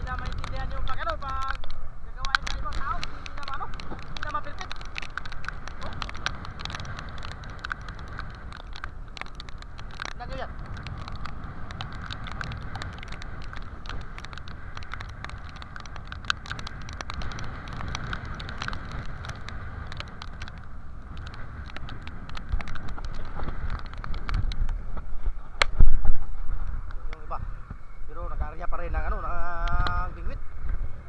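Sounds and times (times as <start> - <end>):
spray and raindrops ticking: 0.0 - 31.0
wind buffeting microphone: 0.0 - 31.0.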